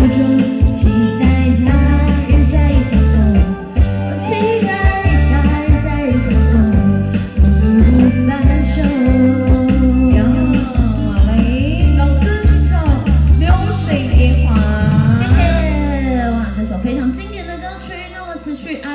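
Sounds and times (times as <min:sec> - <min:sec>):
pop ballad backing track: 0:00.0 - 0:18.9.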